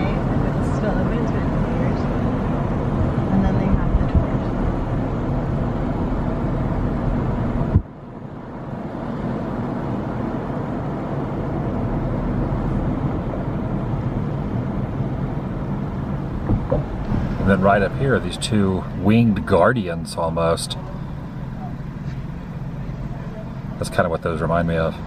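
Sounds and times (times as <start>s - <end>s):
car road and wind noise: 0.0s - 25.0s.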